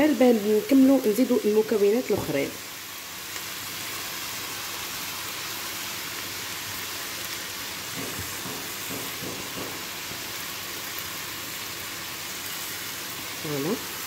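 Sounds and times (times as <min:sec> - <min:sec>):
onions and greens sizzling in a pan: 0:00.0 - 0:14.0.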